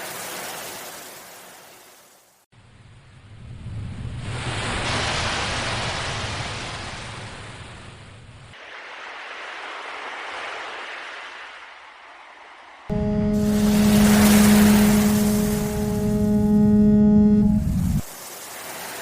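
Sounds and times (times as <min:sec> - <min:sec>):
ocean waves washing in: 0:00.0 - 0:02.2, 0:03.6 - 0:19.0.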